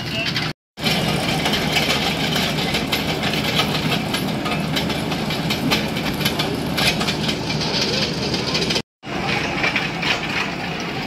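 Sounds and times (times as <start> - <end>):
diesel engine running under load: 0.2 - 11.0.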